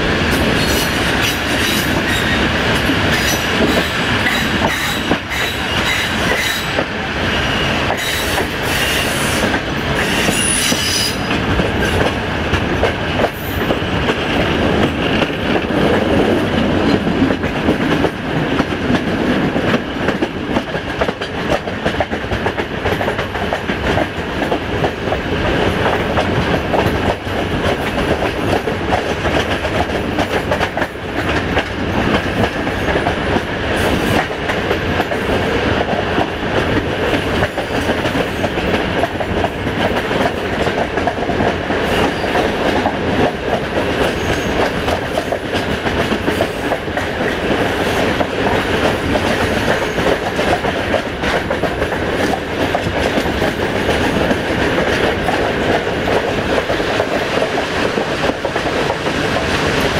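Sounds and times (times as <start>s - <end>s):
train wheels rumbling on rails: 0.0s - 59.9s
clickety-clack over rail joints: 0.2s - 59.9s.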